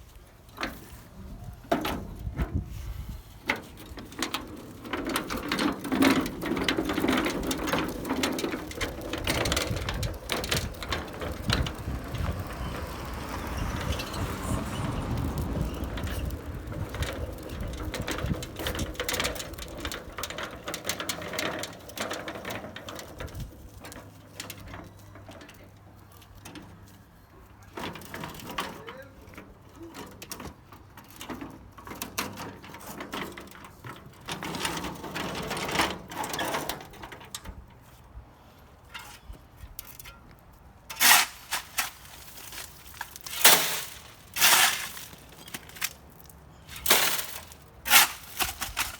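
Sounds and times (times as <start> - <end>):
rubble rattling and scraping: 0.0 - 38.1, 38.8 - 48.9.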